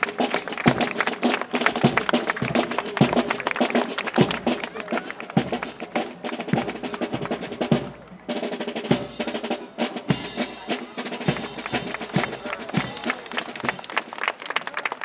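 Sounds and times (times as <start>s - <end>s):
drums heavy beat: 0.0s - 13.8s
parade band music: 0.0s - 14.2s.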